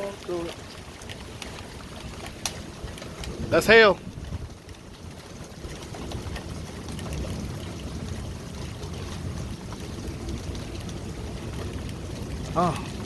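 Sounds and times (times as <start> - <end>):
hailstones ticking: 0.0 - 13.0
rain hiss: 0.0 - 13.0
wind rumble on microphone: 0.0 - 13.0.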